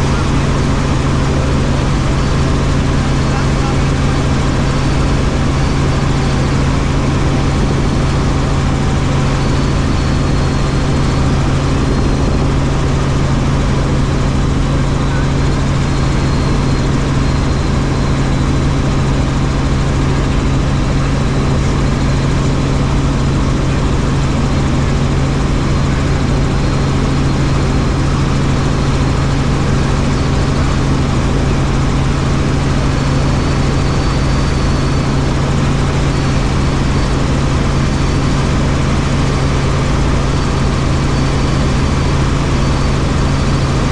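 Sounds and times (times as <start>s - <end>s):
helicopter engine and rotor drone: 0.0s - 43.9s
low hum: 0.0s - 43.9s.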